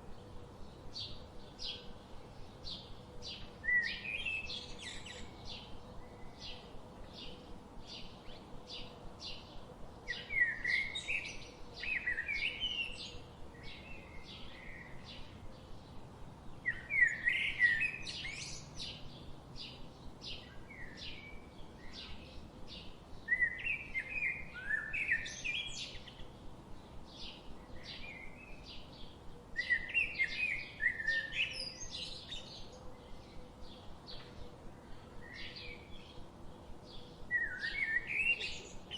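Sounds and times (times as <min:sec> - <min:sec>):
bird chirping: 0:00.1 - 0:38.9
bird warbling song: 0:02.6 - 0:26.5, 0:27.1 - 0:38.9.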